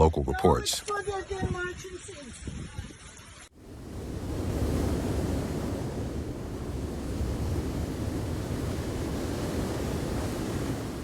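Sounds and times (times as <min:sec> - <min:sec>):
storm wind on microphone: 0:01.2 - 0:11.0.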